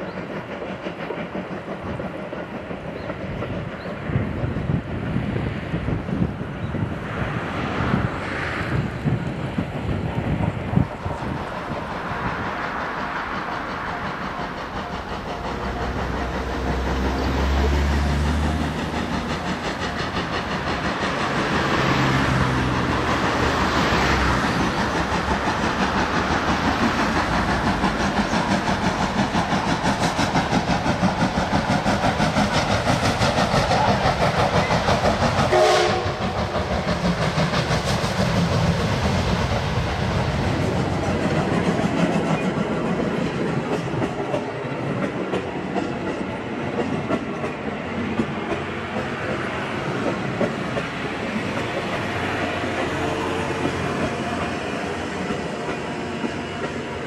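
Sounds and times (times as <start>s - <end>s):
steam locomotive exhaust beating: 0.0s - 57.0s
train wheels clattering on rails: 0.0s - 57.0s.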